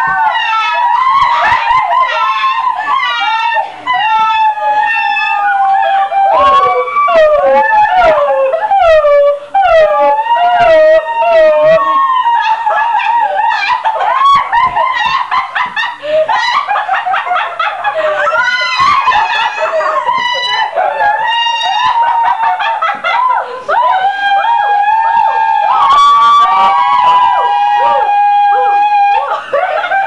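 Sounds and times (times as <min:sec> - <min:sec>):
girls howling and wailing: 0:00.0 - 0:30.0.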